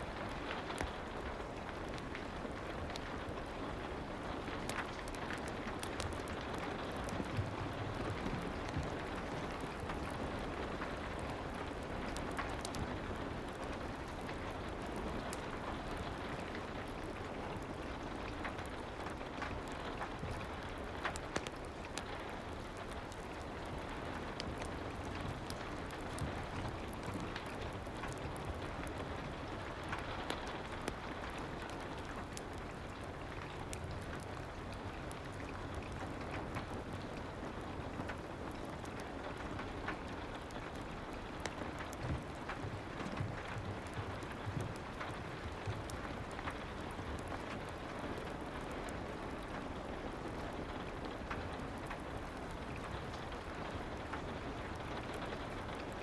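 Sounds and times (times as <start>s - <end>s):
fireplace crackles: 0.0s - 56.0s
soft rain hiss: 0.0s - 56.0s.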